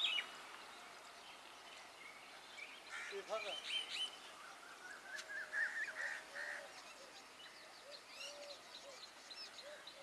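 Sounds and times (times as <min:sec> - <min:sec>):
bird warbling song: 0:00.0 - 0:10.0.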